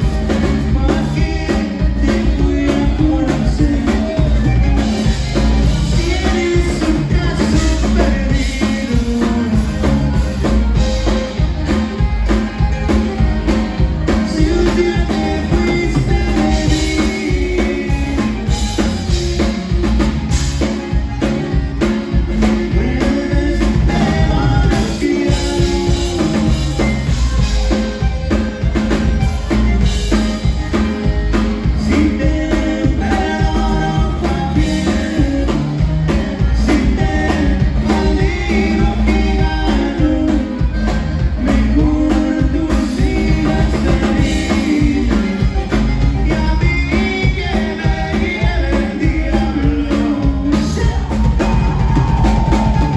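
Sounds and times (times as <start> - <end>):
accordion: 0.0 - 52.9
acoustic guitar: 0.0 - 52.9
drum kit beat: 0.0 - 52.9
electric bass: 0.0 - 52.9.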